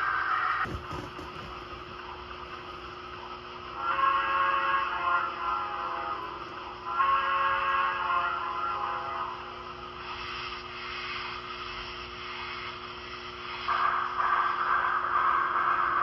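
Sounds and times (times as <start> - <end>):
model train hum: 0.0 - 16.0
steam hiss: 0.0 - 16.0.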